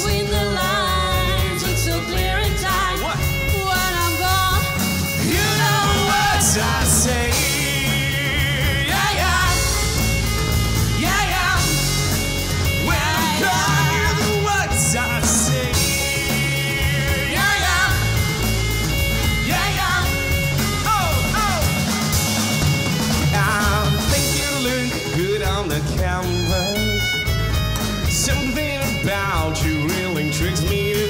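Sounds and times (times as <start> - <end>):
person singing: 0.0 - 10.2, 11.0 - 18.6, 19.4 - 22.0, 23.2 - 27.2, 28.0 - 31.0
live rock band playing: 0.0 - 31.0.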